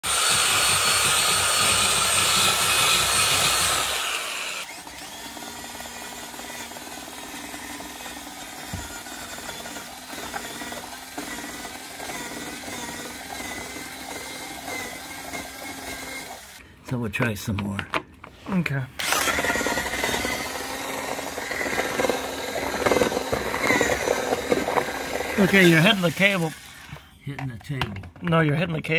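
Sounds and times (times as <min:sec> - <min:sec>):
drill whine through wood: 0:00.0 - 0:16.6, 0:19.0 - 0:27.2
electric drill boring into wall: 0:00.0 - 0:16.6, 0:19.0 - 0:27.1.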